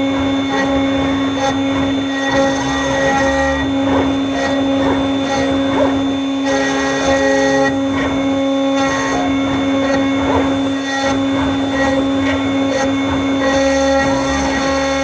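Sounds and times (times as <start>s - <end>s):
spindle whine: 0.0s - 15.0s.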